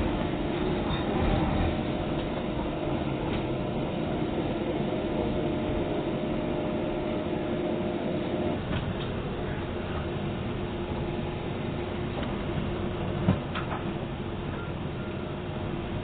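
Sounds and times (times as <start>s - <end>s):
high steady whine: 0.0s - 16.0s
train humming: 0.0s - 16.0s.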